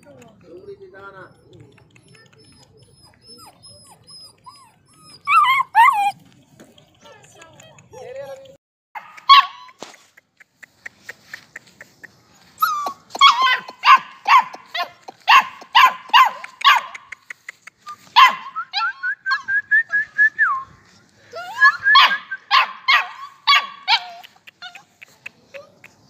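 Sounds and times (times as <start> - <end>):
puppy barking and yelping: 1.1 - 6.3, 7.1 - 19.5, 21.4 - 26.0.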